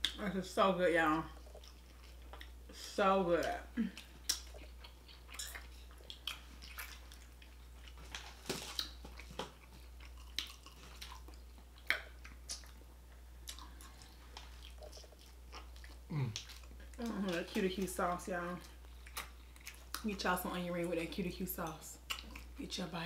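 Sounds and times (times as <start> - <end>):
steady low hum: 0.0 - 23.0
wet chewing with mouth clicks: 1.2 - 20.4, 21.0 - 22.8.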